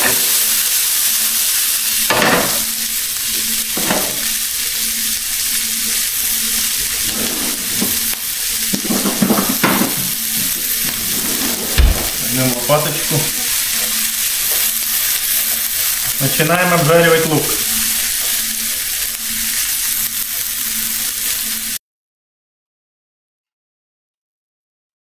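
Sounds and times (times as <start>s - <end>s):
onion sizzling in a pan: 0.0s - 21.8s.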